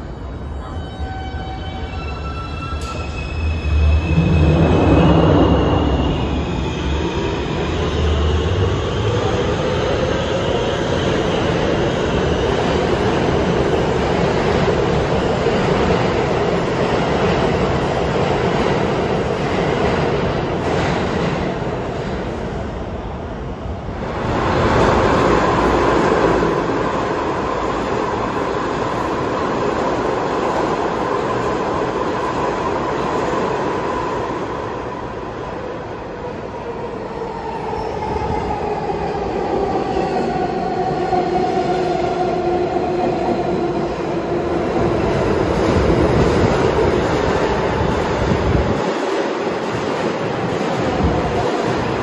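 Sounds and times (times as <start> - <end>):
steel wheels rumbling on rail: 2.7 - 52.0.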